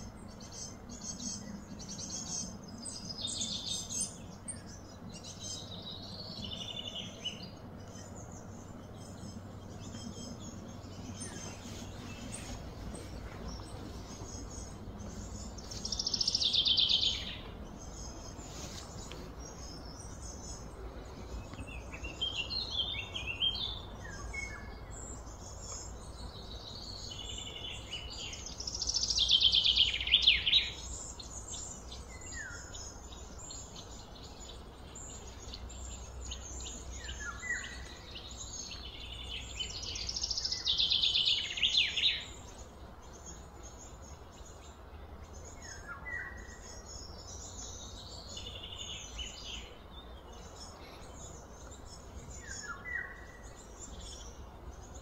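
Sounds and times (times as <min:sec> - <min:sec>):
bird singing trills: 0:00.0 - 0:55.0
low outdoor rumble: 0:00.0 - 0:55.0
soft bird chirps: 0:00.0 - 0:55.0.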